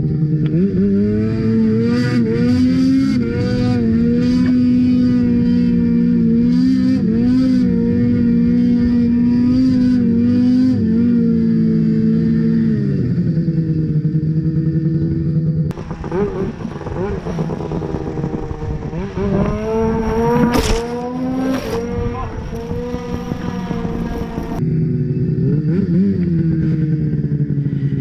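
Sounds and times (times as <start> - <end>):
snowmobile engine revving high: 0.0 - 14.5, 15.7 - 28.0.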